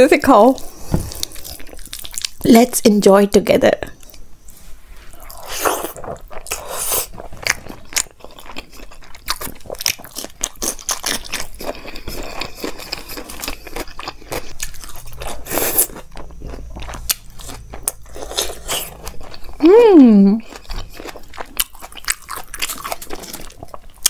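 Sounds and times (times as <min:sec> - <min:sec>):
person chewing food: 0:00.6 - 0:02.4, 0:05.1 - 0:19.6, 0:20.4 - 0:24.0.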